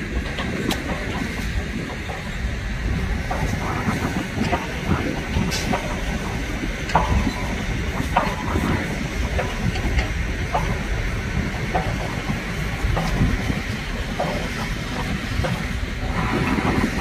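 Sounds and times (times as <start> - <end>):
diesel machinery rumble: 0.0 - 17.0.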